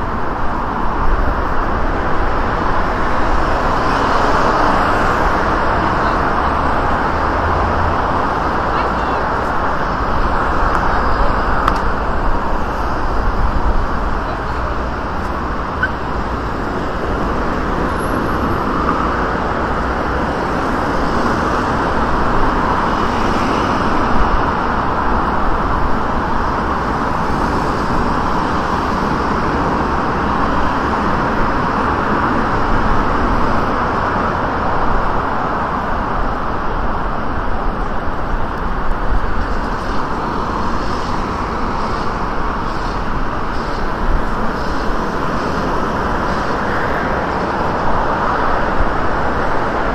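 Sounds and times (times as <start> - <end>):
cars passing close by: 0.0 - 49.9
city road traffic: 0.0 - 49.9.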